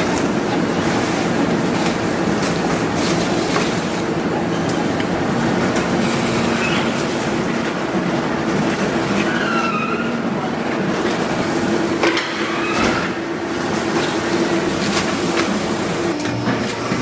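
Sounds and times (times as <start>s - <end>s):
food-processing machinery humming: 0.0s - 17.0s.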